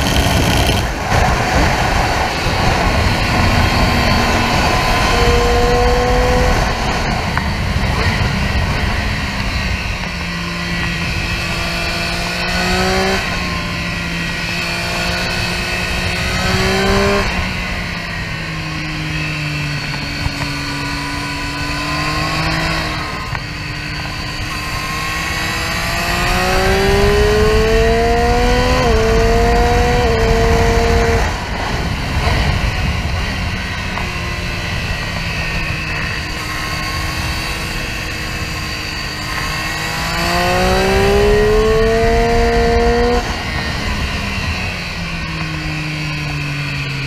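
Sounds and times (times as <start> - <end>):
motorcycle engine revving: 0.0 - 47.0
wind rush: 0.0 - 47.0.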